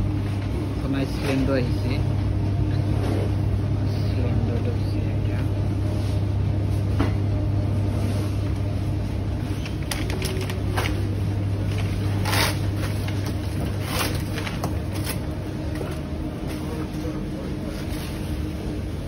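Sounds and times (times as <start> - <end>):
low electrical hum of refrigerators: 0.0 - 19.0.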